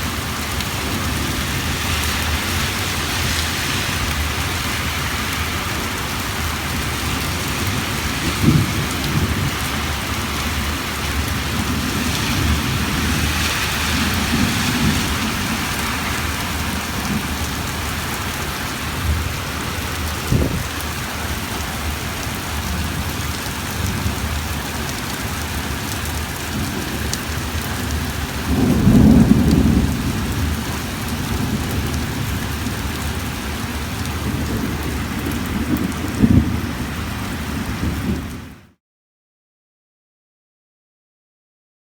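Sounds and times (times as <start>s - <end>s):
heavy rain falling: 0.0s - 38.8s
thunder rumbling: 4.0s - 38.6s.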